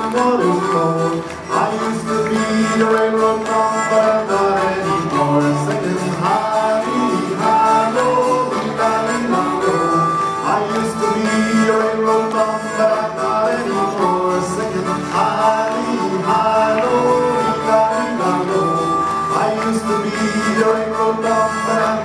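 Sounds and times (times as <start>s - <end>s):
harmonica melody: 0.0s - 22.0s
strummed acoustic guitars: 0.0s - 22.0s.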